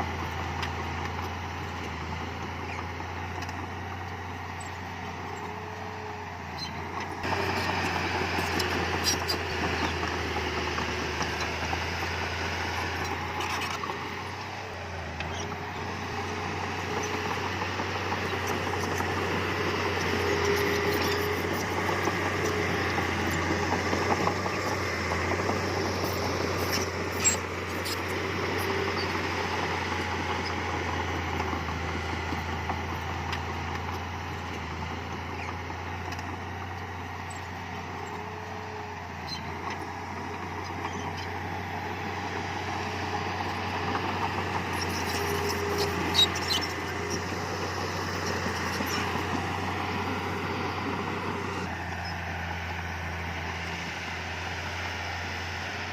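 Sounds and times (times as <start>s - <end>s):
heavy machinery engine drone: 0.0s - 55.9s.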